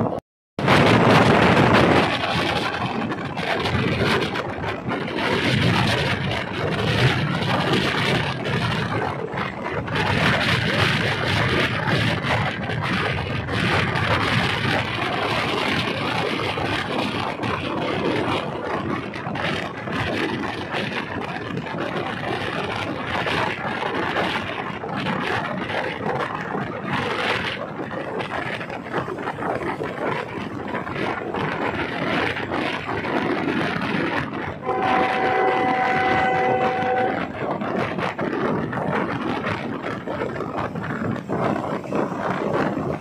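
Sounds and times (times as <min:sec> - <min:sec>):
rattles and clicks: 0:00.0 - 0:43.0
train wheels rumbling on rails: 0:00.0 - 0:43.0.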